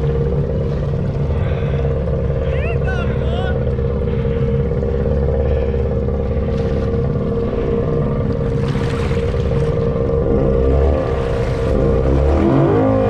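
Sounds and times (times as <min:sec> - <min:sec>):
atv engine running: 0:00.0 - 0:13.0
water sloshing and splashing: 0:00.0 - 0:13.0.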